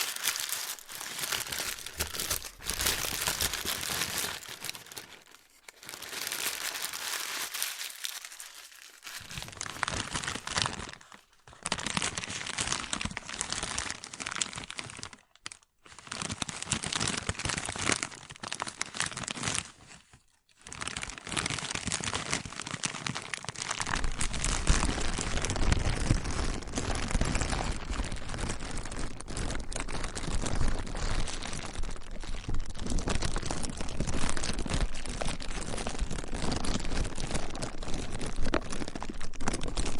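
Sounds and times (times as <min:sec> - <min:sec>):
plastic crinkling by hand: 0:00.0 - 0:39.9.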